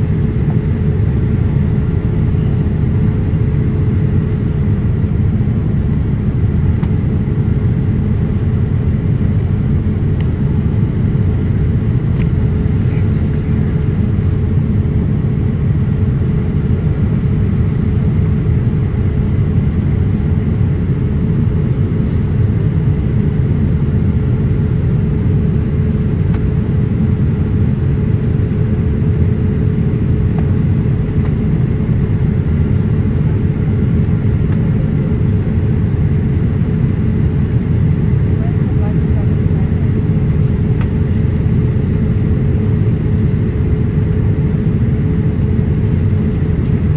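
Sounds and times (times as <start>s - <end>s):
airplane cabin drone: 0.0s - 46.9s
steady hum: 0.0s - 46.9s.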